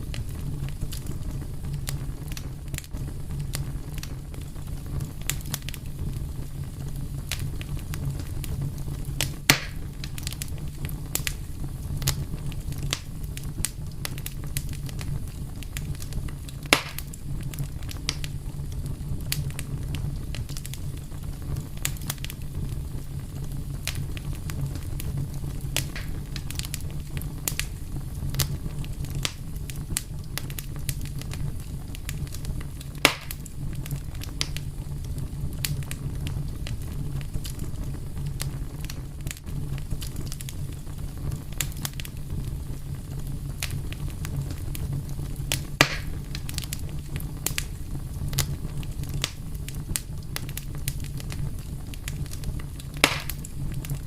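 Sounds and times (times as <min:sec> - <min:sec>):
fire crackling: 0:00.0 - 0:54.0
steady low rumble: 0:00.0 - 0:54.0.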